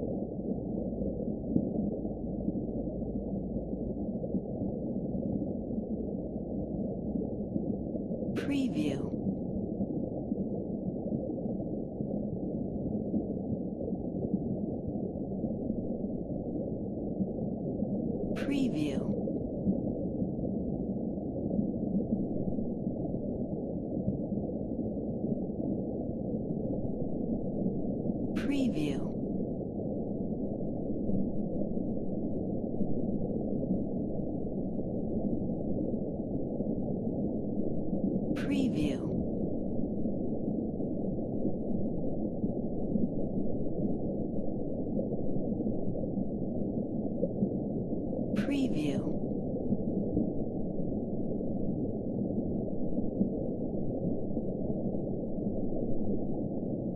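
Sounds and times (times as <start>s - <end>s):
low rumble of deep water: 0.0s - 56.9s
muffled underwater wash: 0.0s - 56.9s.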